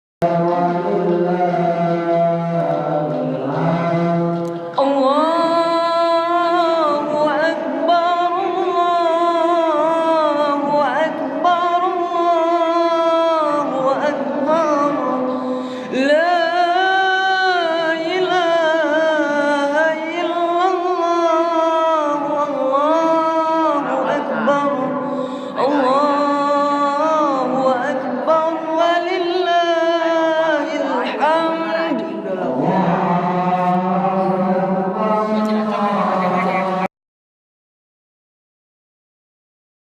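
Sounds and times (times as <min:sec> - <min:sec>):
person chanting melismatic phrases: 0:00.2 - 0:36.9.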